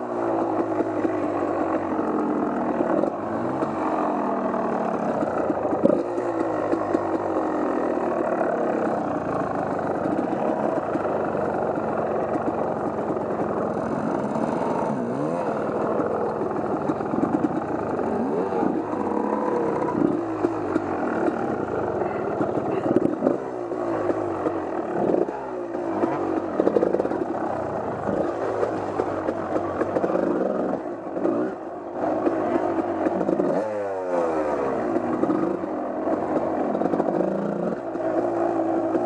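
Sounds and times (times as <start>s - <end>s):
off-road engine revving: 0.0s - 39.0s.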